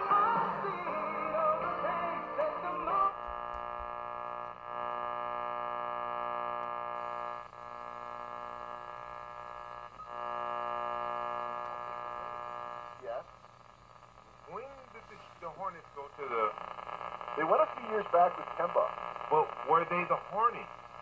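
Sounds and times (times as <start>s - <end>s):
radio buzzing tone: 0.0s - 21.0s.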